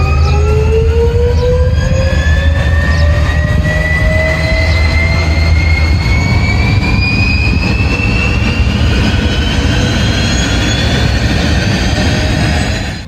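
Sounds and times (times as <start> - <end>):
jet engines roaring: 0.0 - 13.0
rising engine whine: 0.0 - 13.0.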